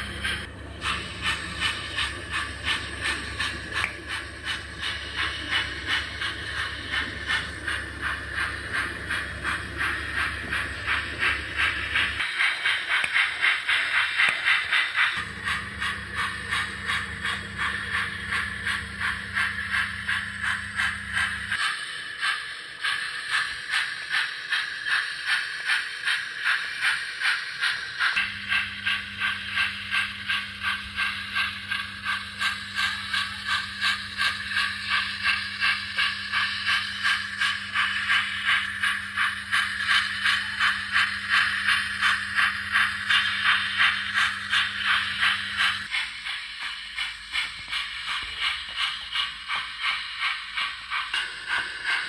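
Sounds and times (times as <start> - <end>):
model steam locomotive chuffing: 0.0 - 52.0
steady low hum: 0.0 - 52.0.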